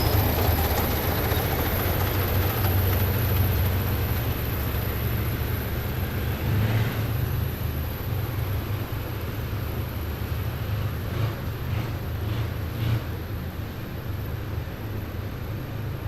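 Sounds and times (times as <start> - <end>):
heavy vehicles driving past: 0.0 - 16.0.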